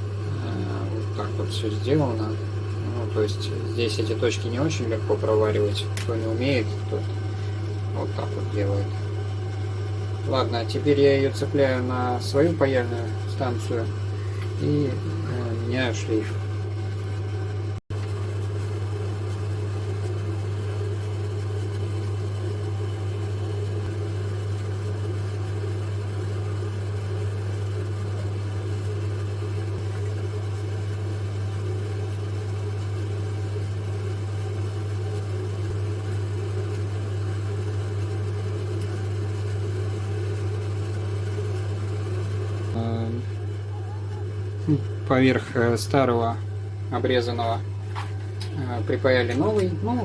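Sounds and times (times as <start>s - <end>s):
small motor humming: 0.0s - 45.7s.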